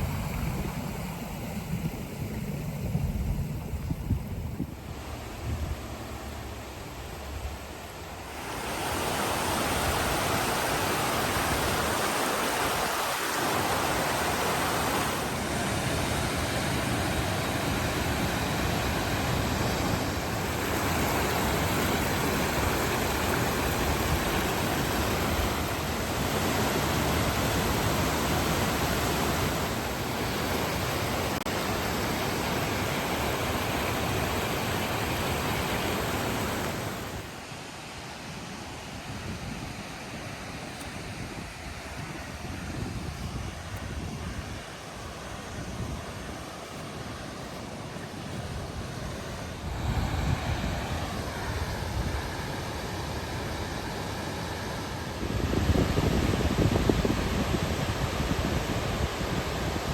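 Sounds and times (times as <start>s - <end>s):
waterfall rushing: 4.9s - 39.1s, 39.8s - 59.9s.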